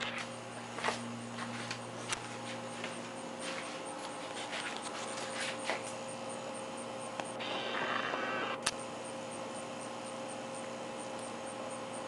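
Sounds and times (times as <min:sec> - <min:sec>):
electric clock motor humming: 0:00.0 - 0:12.0.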